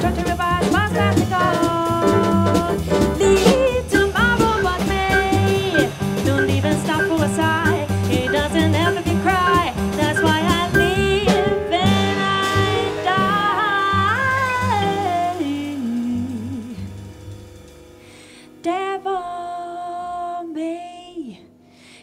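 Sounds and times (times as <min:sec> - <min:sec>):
woman singing jazz: 0:00.0 - 0:17.5, 0:18.4 - 0:21.6
upright double bass: 0:00.0 - 0:18.1
drum kit: 0:00.0 - 0:18.8.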